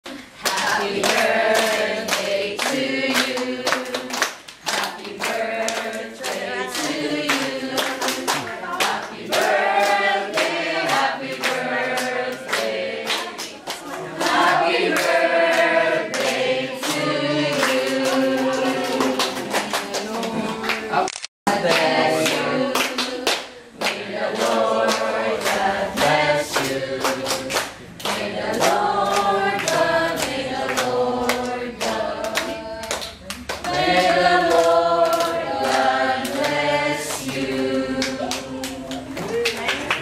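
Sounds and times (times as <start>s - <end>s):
hands clapping in beat: 0.1s - 21.0s, 21.6s - 40.0s
group of people singing: 0.1s - 40.0s.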